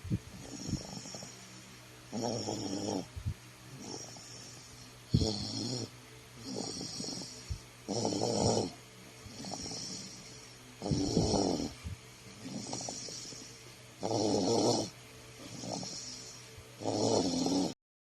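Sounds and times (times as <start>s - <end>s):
toddler snoring: 0.3s - 1.5s, 2.1s - 3.1s, 3.7s - 17.8s.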